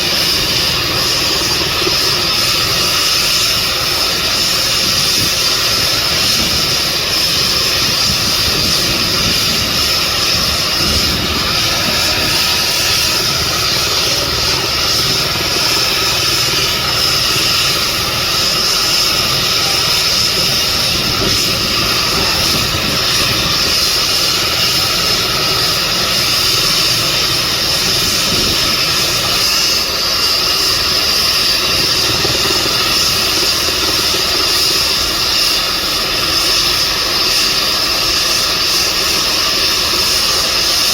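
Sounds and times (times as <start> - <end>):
helicopter rotor rushing: 0.0 - 40.9
helicopter turbine whine: 0.0 - 40.9.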